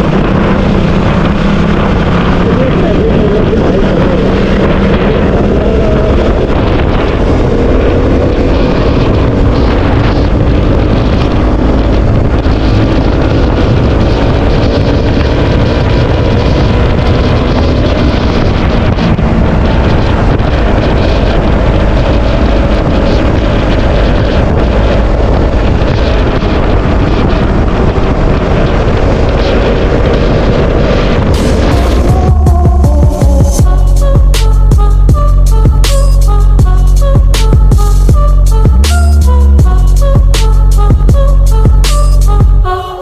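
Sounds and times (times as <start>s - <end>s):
motorcycle engine cruising: 0.0s - 42.8s
wind rush on microphone: 0.0s - 43.0s.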